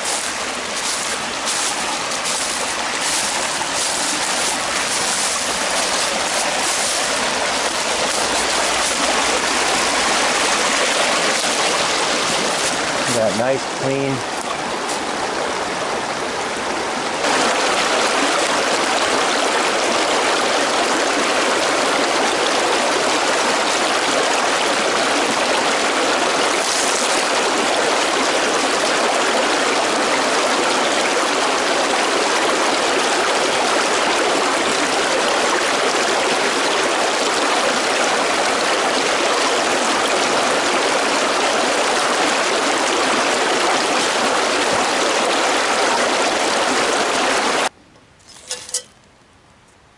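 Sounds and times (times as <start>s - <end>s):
creek splashing over rocks: 0.0s - 47.7s.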